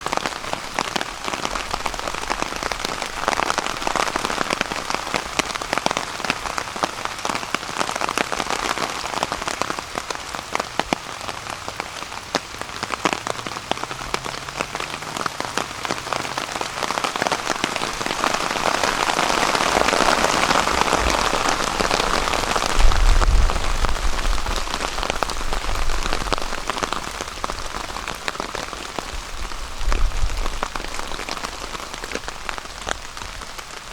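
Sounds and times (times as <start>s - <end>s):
rain pattering on a tarp: 0.0s - 33.9s.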